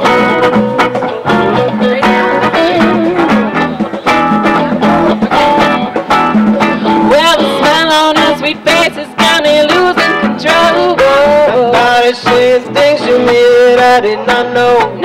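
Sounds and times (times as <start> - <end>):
blues-rock band playing: 0.0 - 15.0
electric guitar: 0.0 - 15.0.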